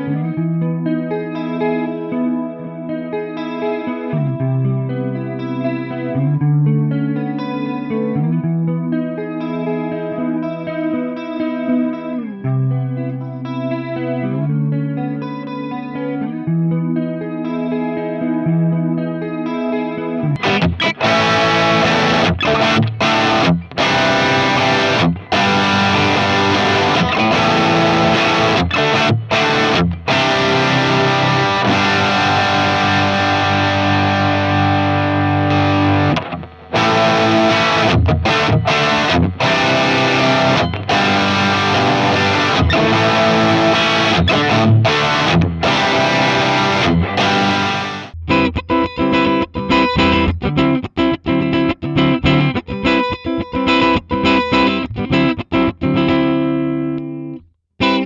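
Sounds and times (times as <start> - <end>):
distorted electric guitar riffing: 0.0 - 58.0.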